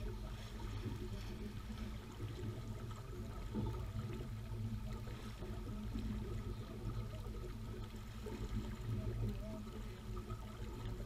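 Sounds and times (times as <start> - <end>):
water splashing along hull: 0.0 - 11.0.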